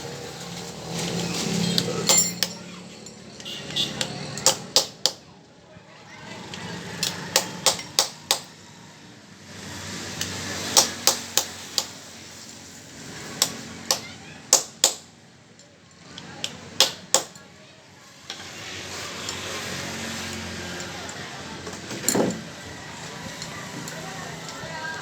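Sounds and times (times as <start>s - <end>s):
faint voices: 0.0s - 10.8s, 15.2s - 25.0s.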